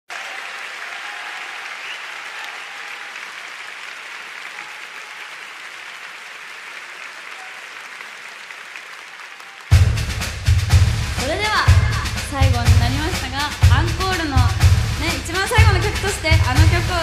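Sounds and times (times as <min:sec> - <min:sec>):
arena audience applauding: 0:00.0 - 0:17.0.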